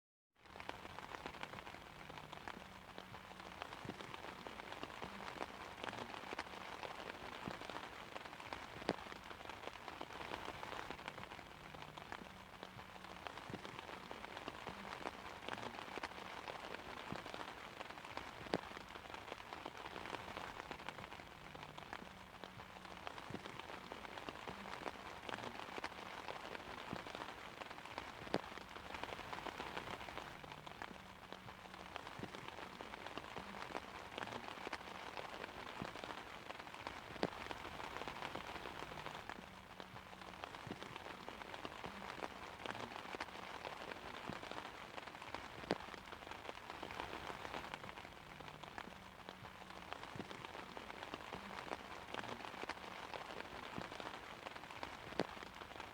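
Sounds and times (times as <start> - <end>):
rain pattering on umbrella: 0.4 - 55.9.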